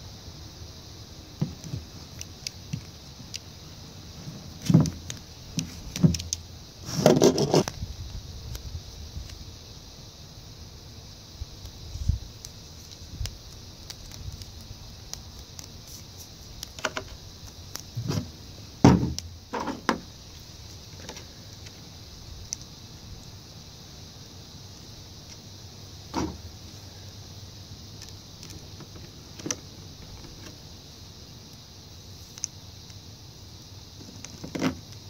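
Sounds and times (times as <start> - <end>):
steady high hiss: 0.0 - 35.0.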